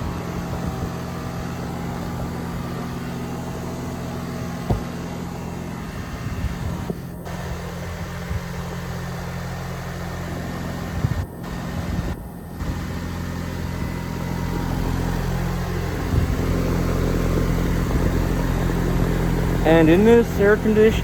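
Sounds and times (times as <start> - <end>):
compressor humming: 0.0 - 21.0
condenser fan rushing: 0.0 - 21.0.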